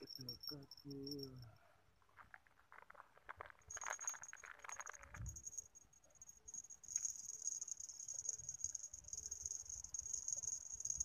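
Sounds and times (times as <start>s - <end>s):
insects chirring: 0.0s - 1.6s, 2.8s - 11.0s.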